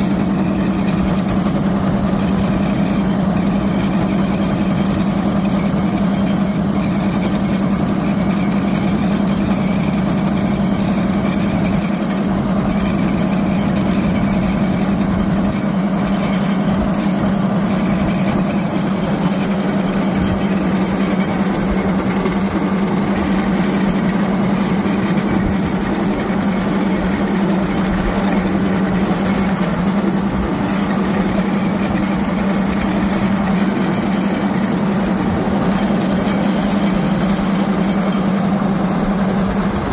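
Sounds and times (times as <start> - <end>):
small railcart engine running: 0.0 - 39.9.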